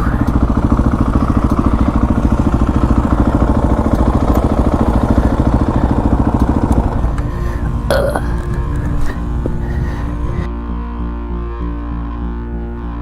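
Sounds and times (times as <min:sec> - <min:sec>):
motorcycle engine idling: 0:00.0 - 0:10.5.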